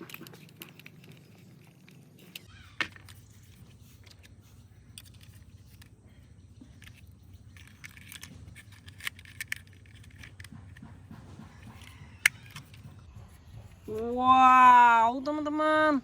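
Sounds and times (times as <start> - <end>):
plastic toy parts clicking: 0.0 - 12.9
low steady hum: 0.0 - 16.0.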